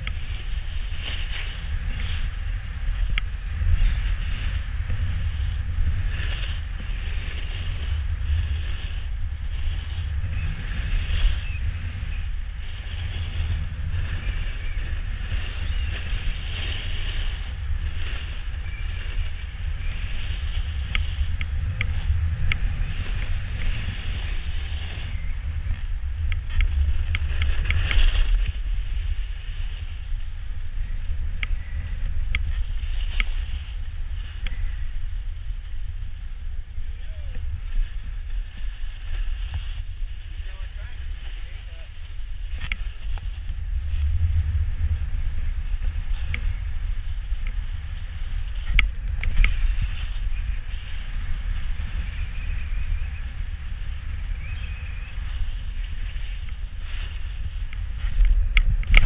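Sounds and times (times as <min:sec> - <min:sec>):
snowboard edges scraping snow: 0:00.0 - 0:59.0
wind rumbling on microphone: 0:00.0 - 0:59.0.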